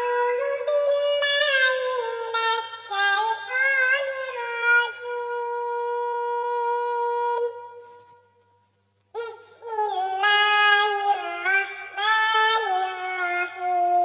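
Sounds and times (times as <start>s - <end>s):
synthetic cat voice chanting melody: 0.0s - 7.6s, 9.2s - 14.0s.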